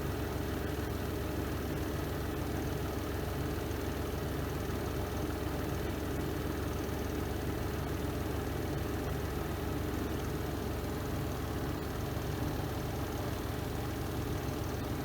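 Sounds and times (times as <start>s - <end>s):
washing machine spin hum: 0.0s - 15.0s.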